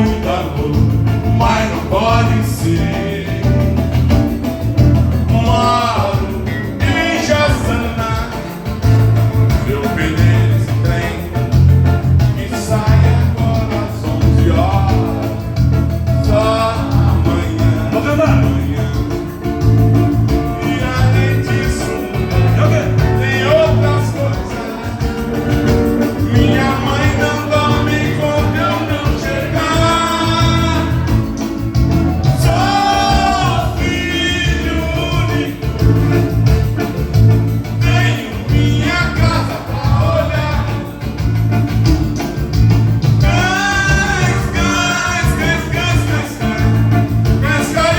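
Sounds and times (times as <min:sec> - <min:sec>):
live band playing dance music: 0:00.0 - 0:47.9
man singing: 0:00.0 - 0:47.9.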